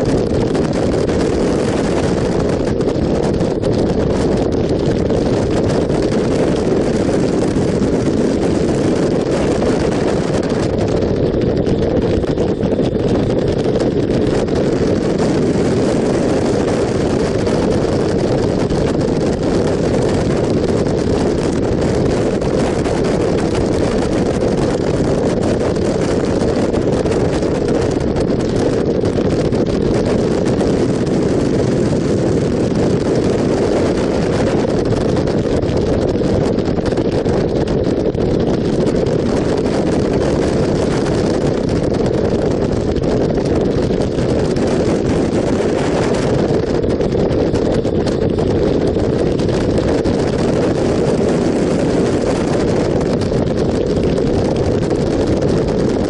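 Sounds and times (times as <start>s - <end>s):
motorcycle engine at road speed: 0.0s - 56.0s
wind rushing over microphone: 0.0s - 56.0s.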